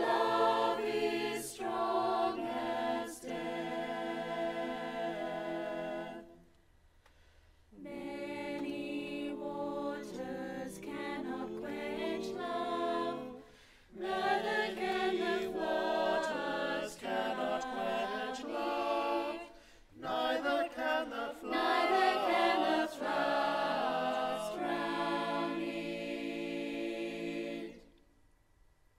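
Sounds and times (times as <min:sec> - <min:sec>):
mixed choir singing: 0:00.0 - 0:06.5, 0:07.8 - 0:28.0.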